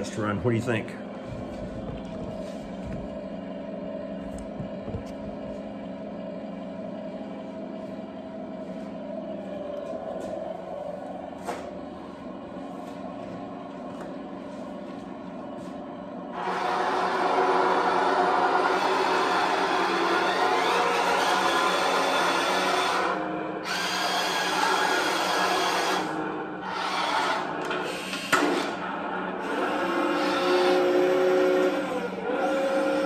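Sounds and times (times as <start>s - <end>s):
simulated tank engine: 0.0s - 33.0s.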